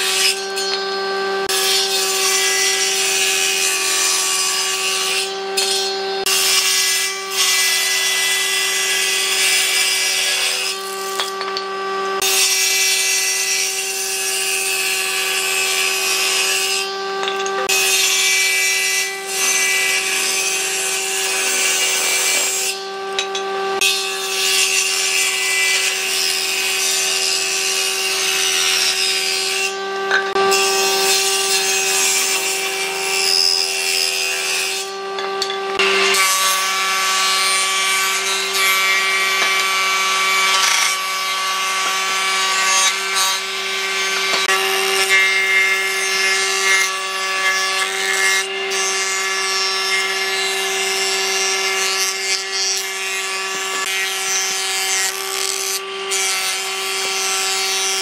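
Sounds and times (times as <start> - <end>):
power tool sanding wood: 0.0 - 58.0.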